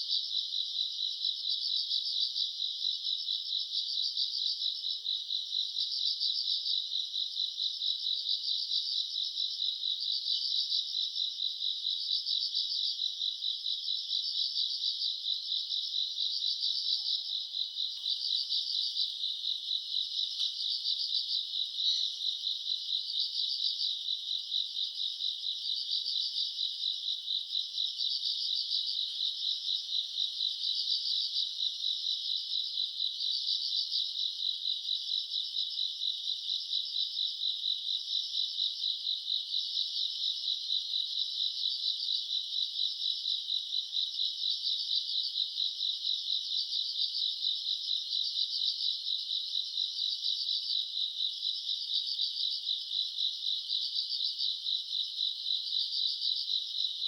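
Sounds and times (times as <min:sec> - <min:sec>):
insects chirping: 0:08.2 - 0:57.0.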